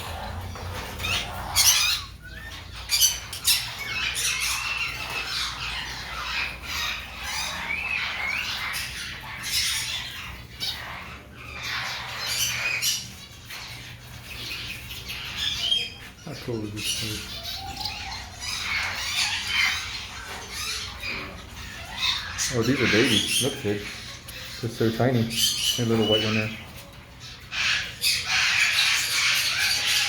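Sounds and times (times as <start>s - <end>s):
caged birds squawking and chirping: 0.0s - 30.0s.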